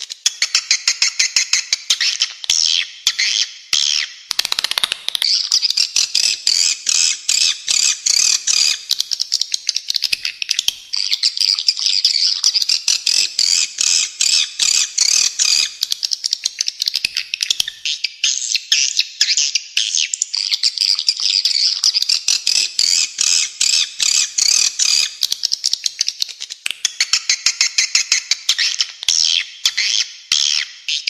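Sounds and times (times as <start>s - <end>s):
rapid high bird chirps: 0.0s - 31.0s.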